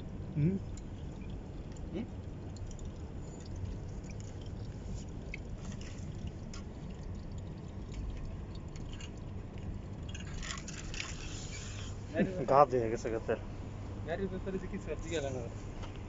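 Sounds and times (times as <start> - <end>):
oil draining into container: 0.0 - 13.3.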